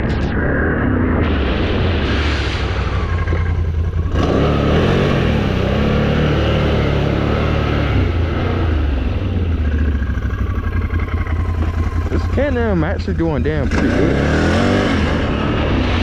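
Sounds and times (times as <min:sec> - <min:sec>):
quad engine revving: 0:02.5 - 0:16.0.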